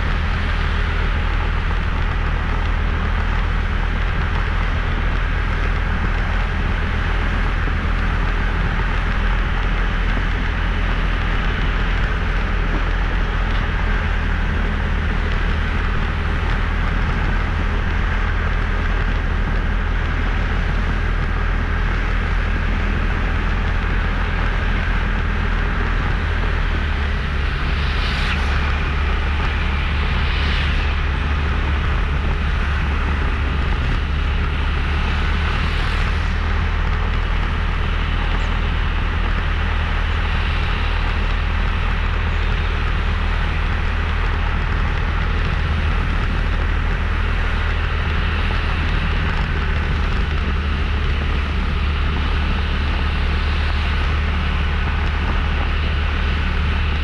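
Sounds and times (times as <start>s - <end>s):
motorbike engine and road noise: 0.0s - 57.0s.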